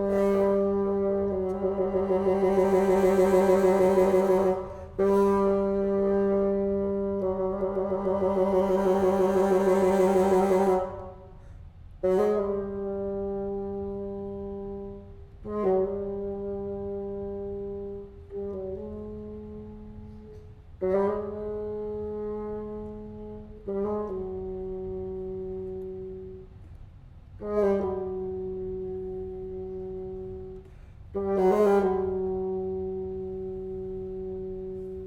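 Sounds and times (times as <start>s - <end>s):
bassoon and ensemble held notes: 0.0s - 26.7s, 27.3s - 35.0s.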